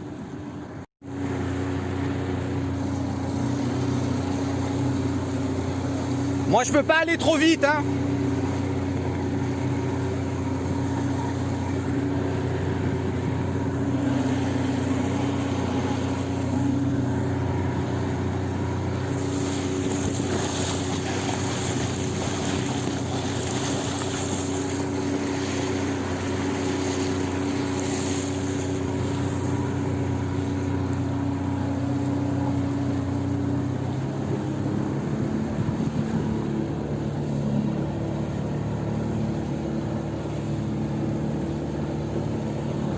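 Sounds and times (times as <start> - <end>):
outboard motor running: 0.0 - 42.9
water hissing along hull: 7.8 - 42.9.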